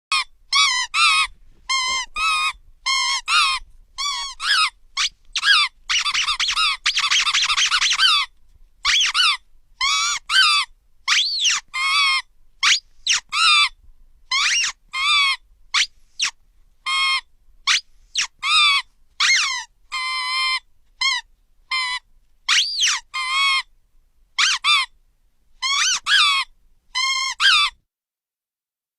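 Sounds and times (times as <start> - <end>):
squeaky toy squeaking: 0.1 - 23.7, 24.4 - 25.0, 25.6 - 27.8.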